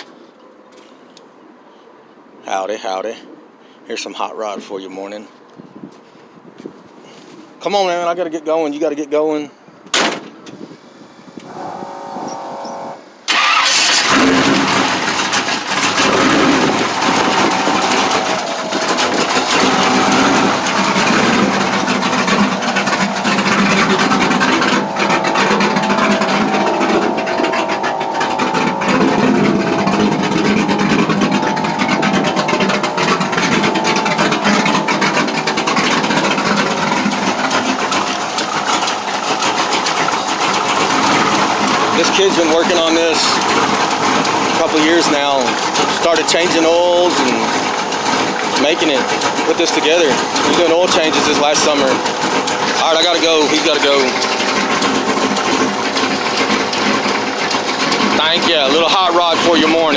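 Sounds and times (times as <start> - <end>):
hot rod engine starting and running: 11.4 - 59.9.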